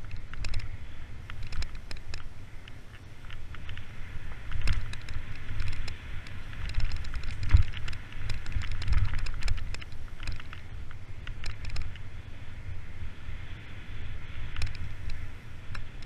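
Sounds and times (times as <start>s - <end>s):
bike clicking and rattling: 0.0s - 16.0s
wind rumbling on microphone: 0.0s - 16.0s.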